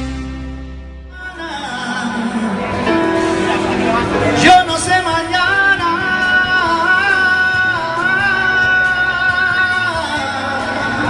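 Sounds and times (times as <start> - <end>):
live latin band: 0.0 - 11.0.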